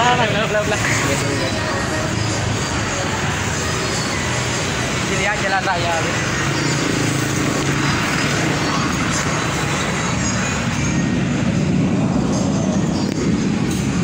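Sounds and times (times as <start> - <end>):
motor vehicles rumbling past: 0.0 - 14.0
motorbike engines passing: 0.0 - 14.0.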